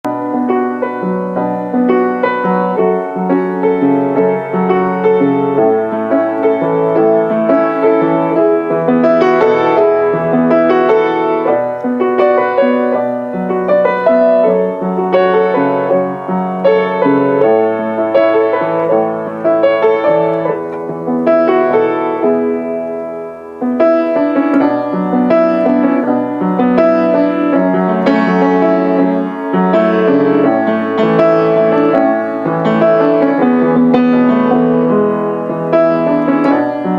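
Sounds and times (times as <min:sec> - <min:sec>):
piano music: 0:00.0 - 0:36.9.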